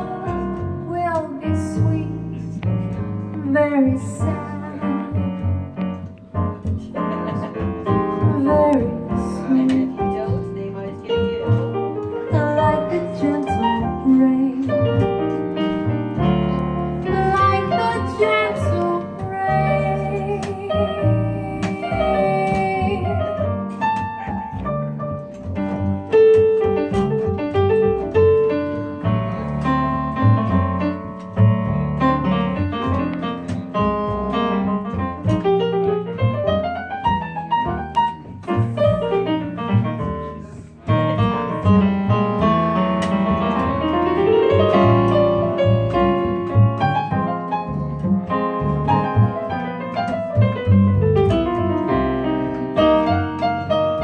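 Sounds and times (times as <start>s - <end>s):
piano playing jazz chords: 0.0s - 54.0s
upright double bass: 0.0s - 54.0s.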